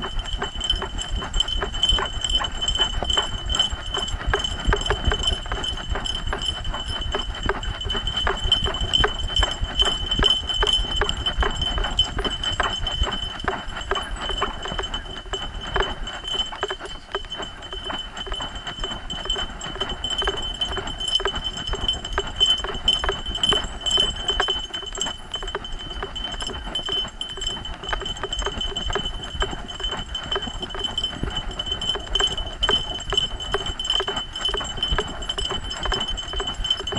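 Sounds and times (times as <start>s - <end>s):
harness jostling: 0.0s - 36.9s
metal jingling: 0.0s - 36.9s.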